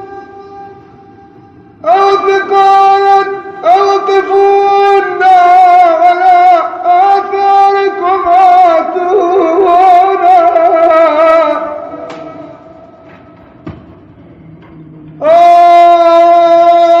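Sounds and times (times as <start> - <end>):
man chanting a religious lament: 0.0 - 13.3, 15.2 - 17.0.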